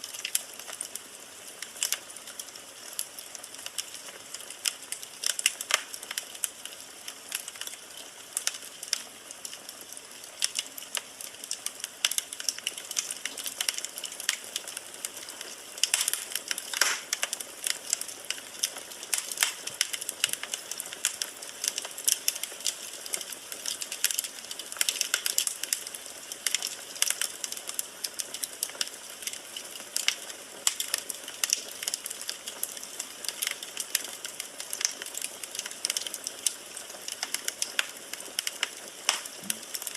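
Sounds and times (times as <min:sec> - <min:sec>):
fire soft hiss: 0:00.0 - 0:39.9
firewood crackling and popping: 0:00.0 - 0:39.9.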